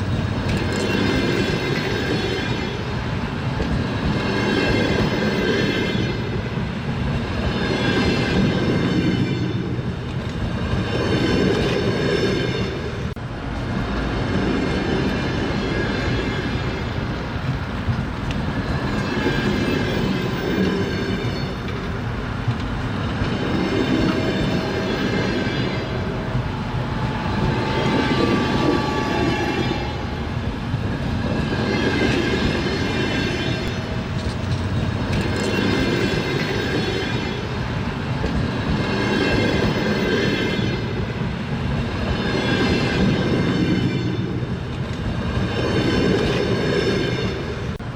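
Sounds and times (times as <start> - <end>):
train carriages rumbling: 0.0 - 47.9.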